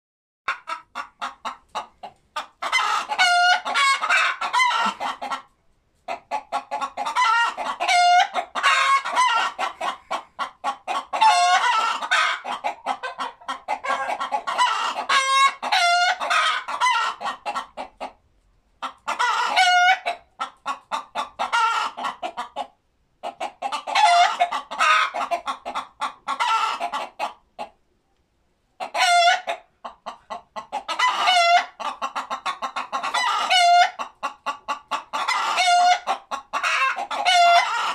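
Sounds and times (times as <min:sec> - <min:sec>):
chickens clucking and squawking: 0:00.5 - 0:27.9, 0:28.7 - 0:37.9.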